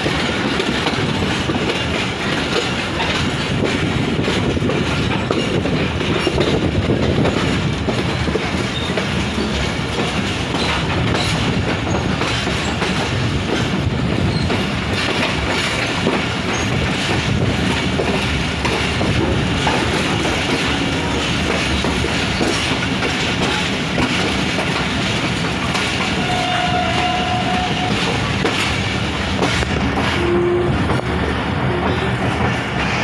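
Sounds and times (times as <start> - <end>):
train wheels clickety-clack: 0.0 - 33.0.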